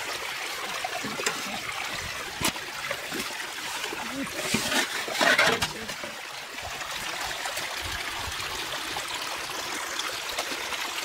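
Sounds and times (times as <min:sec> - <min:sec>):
water rushing from drain: 0:00.0 - 0:11.0.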